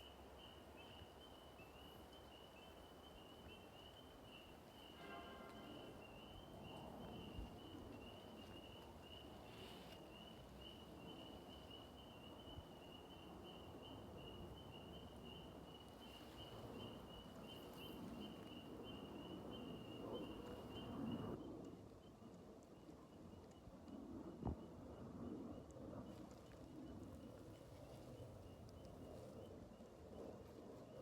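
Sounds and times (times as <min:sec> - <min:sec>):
faint outdoor background noise: 0:00.0 - 0:31.0.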